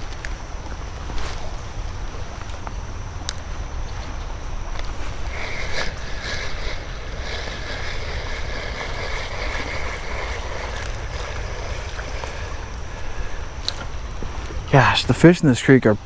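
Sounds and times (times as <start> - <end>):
wind on microphone: 0.0 - 15.2
creek water splashing: 0.0 - 15.8.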